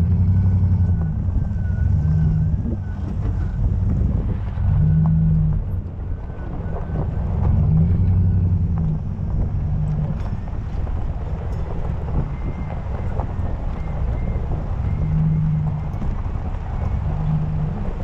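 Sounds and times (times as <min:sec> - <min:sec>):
body and tyre rattles: 0:00.0 - 0:18.0
vehicle engine driving: 0:00.0 - 0:18.0
wind buffeting microphone: 0:00.0 - 0:18.0.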